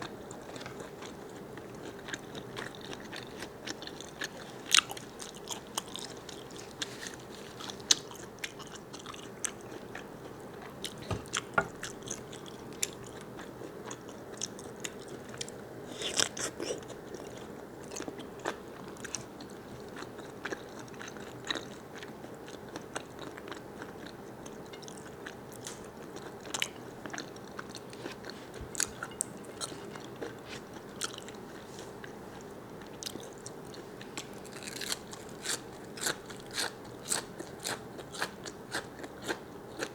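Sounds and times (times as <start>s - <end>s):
person chewing squid: 0.4s - 31.6s, 32.8s - 39.9s.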